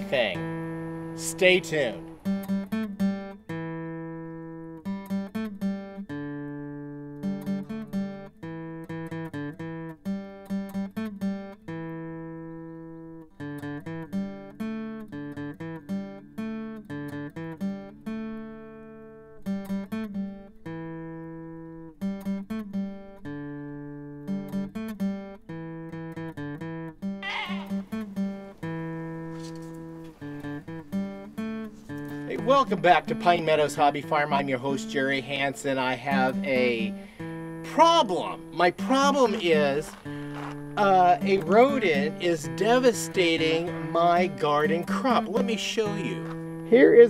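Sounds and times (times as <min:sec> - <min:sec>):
acoustic guitar picking: 0:00.0 - 0:47.0.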